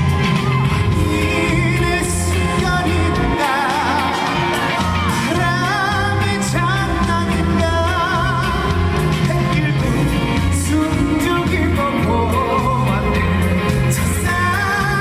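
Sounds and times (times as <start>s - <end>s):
backing music with bass beat: 0.0s - 15.0s
man singing with vibrato: 0.7s - 15.0s.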